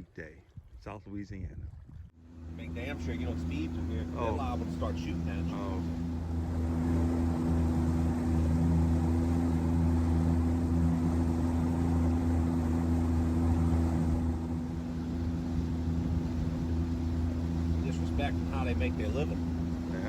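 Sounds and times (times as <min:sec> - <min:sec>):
boat engine humming: 0:02.0 - 0:20.0.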